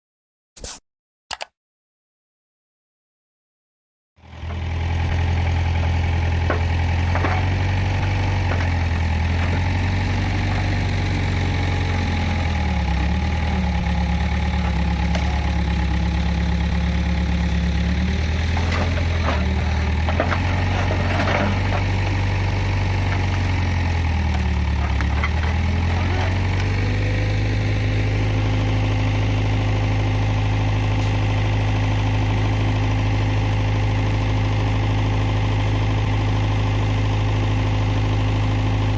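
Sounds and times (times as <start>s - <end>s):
backhoe diesel engine running: 4.2s - 38.9s.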